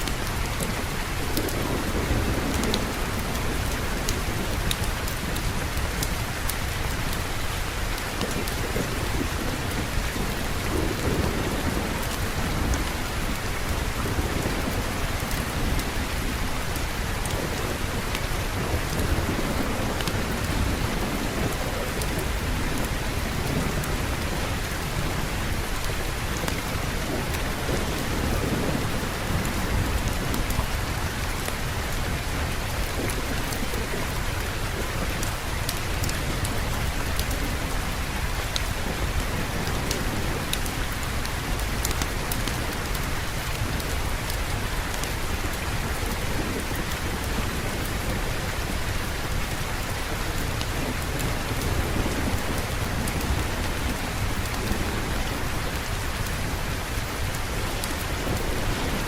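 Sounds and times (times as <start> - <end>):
heavy rain falling: 0.0 - 59.0
low rolling thunder: 0.1 - 59.0.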